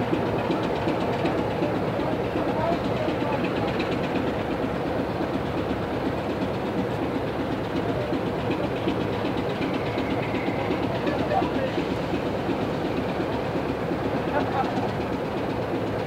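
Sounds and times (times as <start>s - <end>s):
diesel locomotive engine idling: 0.0s - 16.0s.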